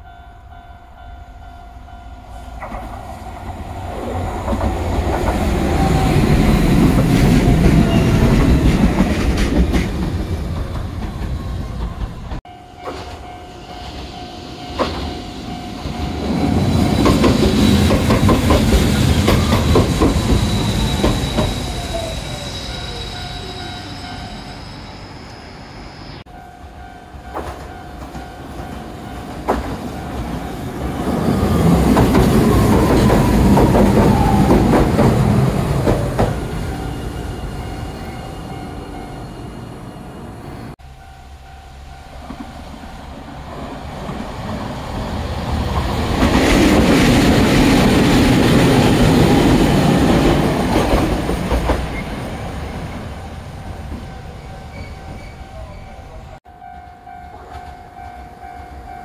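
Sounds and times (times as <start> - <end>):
tram whine falling in pitch: 0.0 - 56.2
tram rumble: 0.0 - 59.0.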